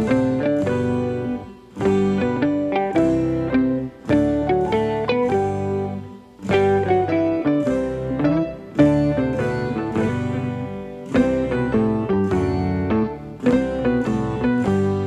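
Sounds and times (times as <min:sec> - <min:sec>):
low accompaniment: 0:00.0 - 0:15.0
plucked instrumental melody: 0:00.0 - 0:15.0.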